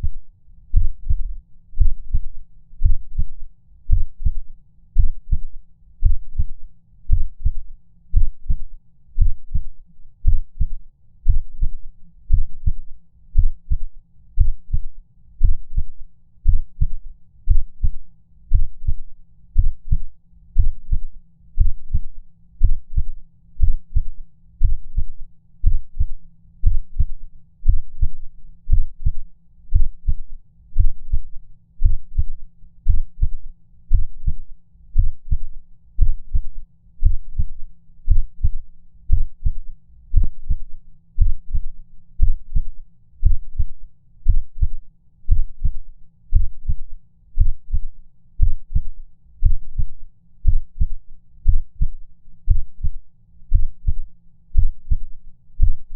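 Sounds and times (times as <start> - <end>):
heartbeat thumps: 0.0 - 19.0, 19.6 - 55.9.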